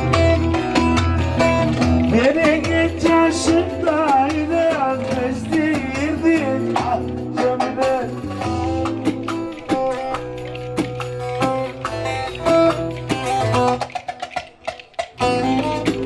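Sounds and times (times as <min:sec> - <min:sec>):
drum beat: 0:00.0 - 0:16.0
keyboard playing: 0:00.0 - 0:16.0
lute playing: 0:00.0 - 0:16.0.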